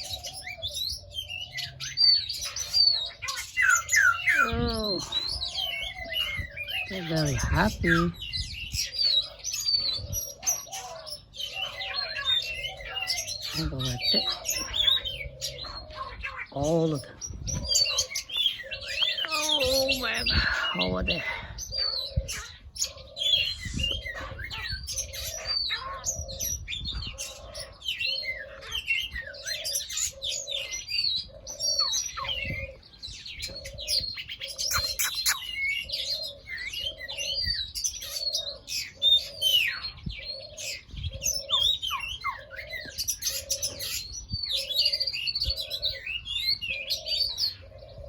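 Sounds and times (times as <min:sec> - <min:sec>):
small birds chirping and twittering: 0:00.0 - 0:48.0.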